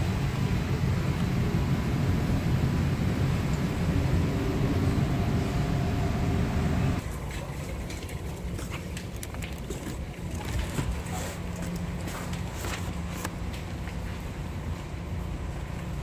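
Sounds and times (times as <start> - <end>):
low rumble with faint hum: 0.0 - 16.0.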